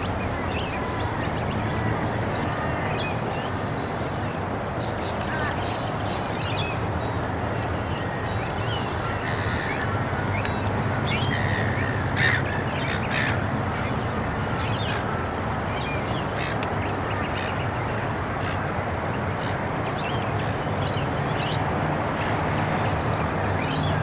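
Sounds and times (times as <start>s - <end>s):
birds chirping and calling: 0.0s - 21.9s.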